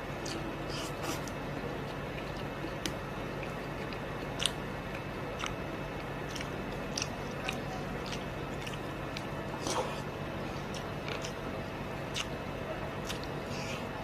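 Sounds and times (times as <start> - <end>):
person chewing: 0.2 - 14.0.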